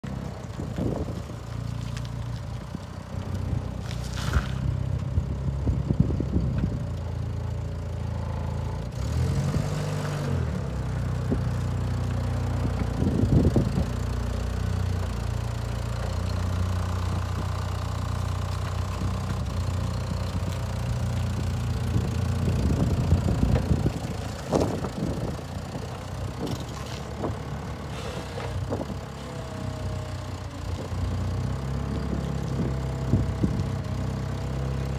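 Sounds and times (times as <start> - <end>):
forklift engine running: 0.0 - 34.9.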